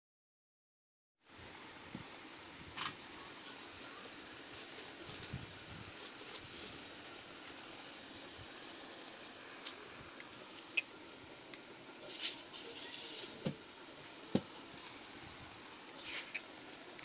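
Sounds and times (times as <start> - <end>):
background hiss: 1.2 - 17.0.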